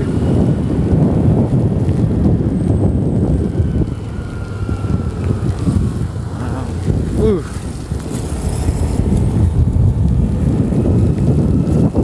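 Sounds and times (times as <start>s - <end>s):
motorcycle engine: 0.0s - 12.0s
road noise: 0.0s - 12.0s
wind buffeting microphone: 0.0s - 12.0s.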